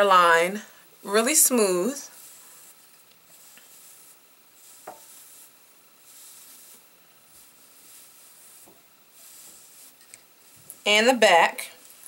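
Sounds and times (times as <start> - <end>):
hairbrush swishing on hair: 1.1 - 12.0.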